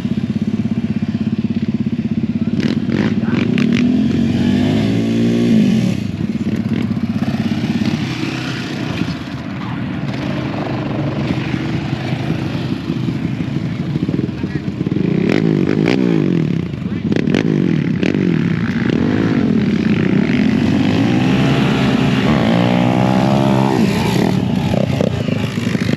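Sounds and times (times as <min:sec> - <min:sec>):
off-road vehicle engine revving: 0:02.4 - 0:25.9.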